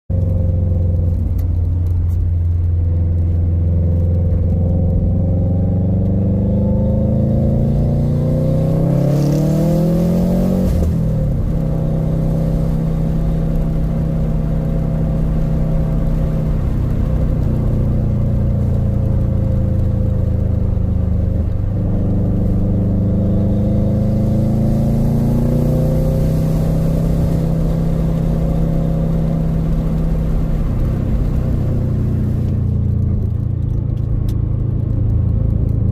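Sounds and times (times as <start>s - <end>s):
car engine revving: 0.1s - 35.9s.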